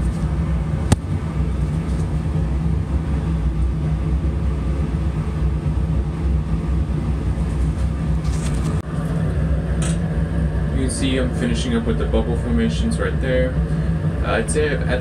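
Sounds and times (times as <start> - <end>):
machinery rumble and hum: 0.0 - 15.0.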